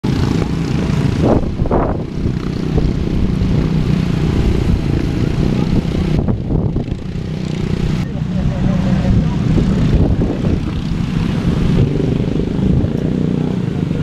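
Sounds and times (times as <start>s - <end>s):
lawn mower engines running: 0.0s - 14.0s.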